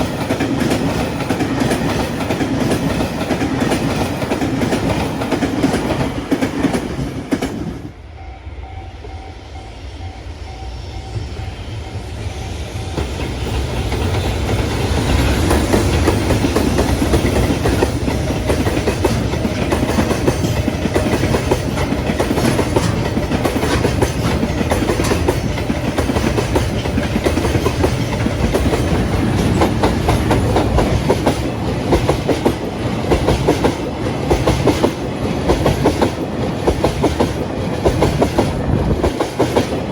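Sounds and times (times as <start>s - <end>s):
freight train wheels clattering: 0.0s - 7.8s, 12.2s - 39.9s.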